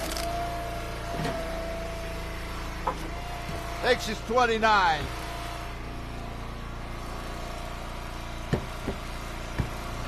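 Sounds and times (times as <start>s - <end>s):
gas engine running: 0.0s - 10.0s.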